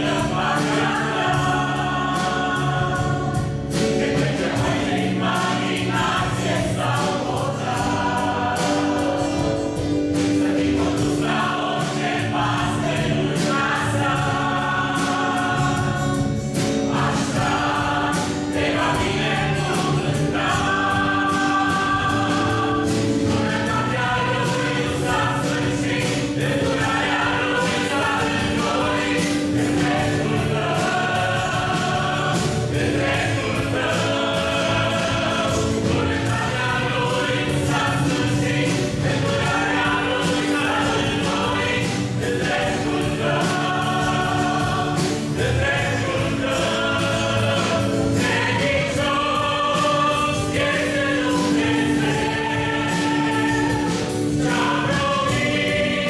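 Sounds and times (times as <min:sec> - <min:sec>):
choir singing in harmony: 0:00.0 - 0:56.0
instrumental accompaniment: 0:00.0 - 0:56.0.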